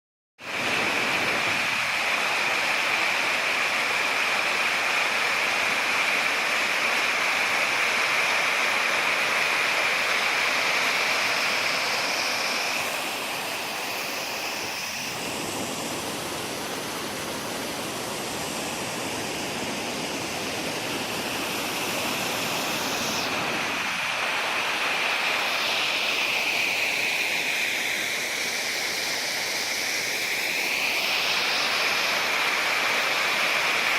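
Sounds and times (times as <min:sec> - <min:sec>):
rushing water: 0:00.4 - 0:33.9.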